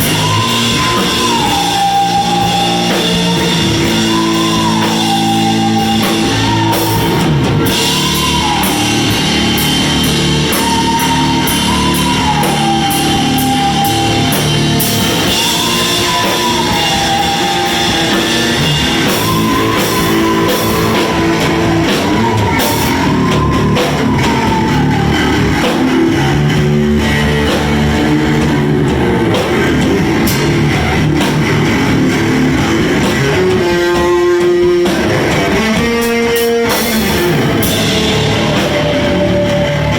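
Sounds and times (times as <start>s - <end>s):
bending lead guitar line: 0.0s - 39.9s
rock band playing live: 0.0s - 39.9s.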